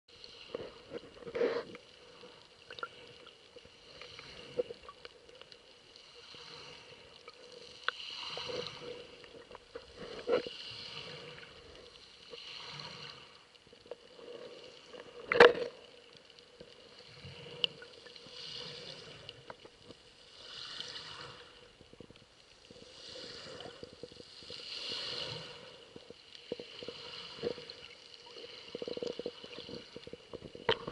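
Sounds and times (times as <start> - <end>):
muffled underwater water noise: 0.1 - 30.9.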